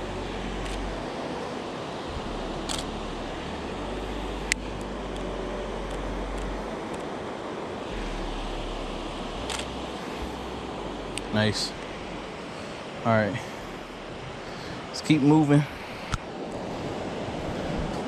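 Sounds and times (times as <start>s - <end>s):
river rapids rushing: 0.0s - 18.0s
wind buffeting microphone: 0.0s - 18.0s.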